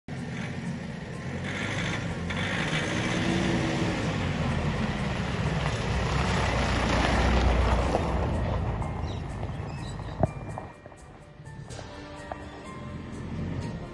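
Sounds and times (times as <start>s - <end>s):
vehicle engine running: 0.1s - 13.9s.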